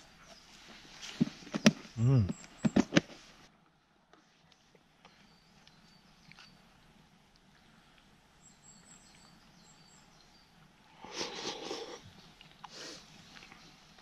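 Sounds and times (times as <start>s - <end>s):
small birds chirping: 0.0s - 3.1s, 4.5s - 14.0s.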